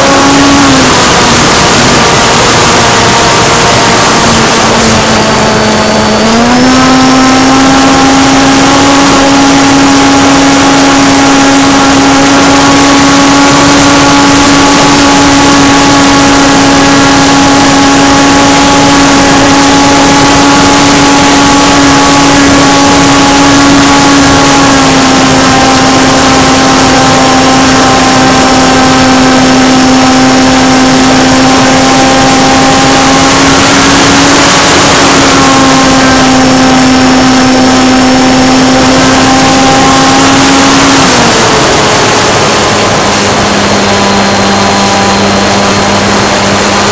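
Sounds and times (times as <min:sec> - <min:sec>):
electric motor whine: 0:00.0 - 0:46.9.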